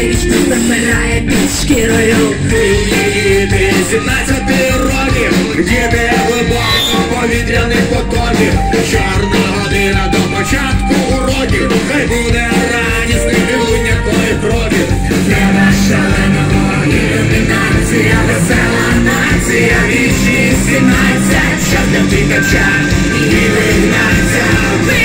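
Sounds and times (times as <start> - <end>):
man singing lead vocal: 0.0 - 25.0
rock band with brass section: 0.0 - 25.0.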